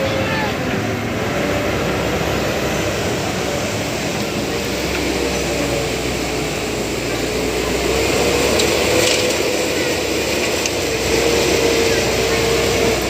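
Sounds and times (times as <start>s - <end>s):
excavator diesel engine running: 0.0s - 13.0s
steady whine: 0.0s - 13.0s.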